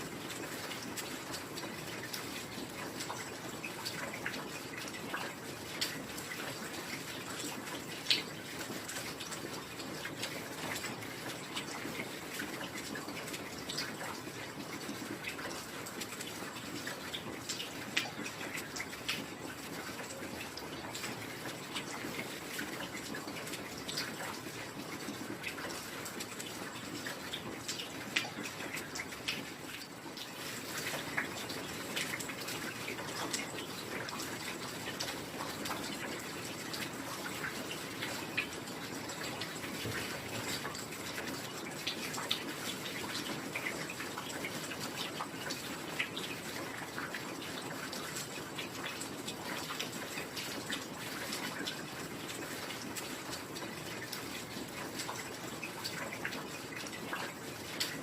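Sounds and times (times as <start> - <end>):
drips and patters: 0.0 - 58.0.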